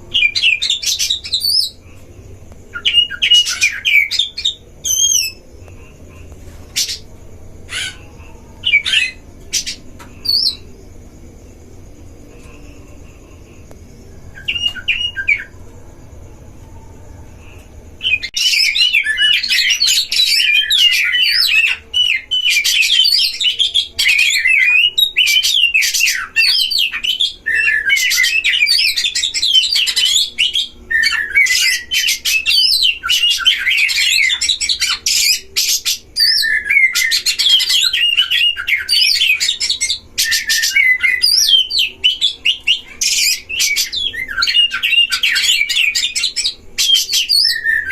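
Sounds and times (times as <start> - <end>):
bird singing: 0.0 - 47.9.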